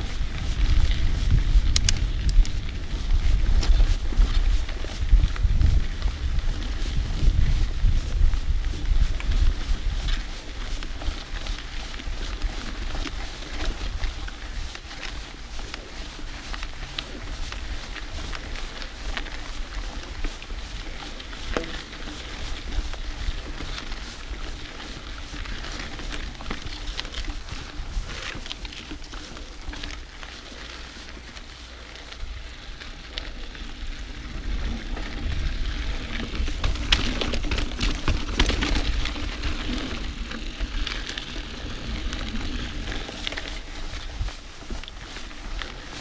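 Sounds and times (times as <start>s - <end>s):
bike tyre noise and rattling: 0.0s - 46.0s
wind rumble on microphone: 0.0s - 46.0s.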